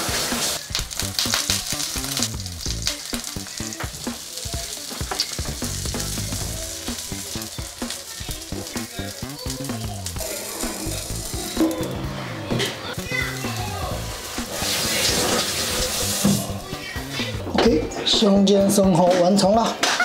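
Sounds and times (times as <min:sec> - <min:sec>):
oysters sizzling in frying pan: 0:00.0 - 0:12.2, 0:12.8 - 0:17.4.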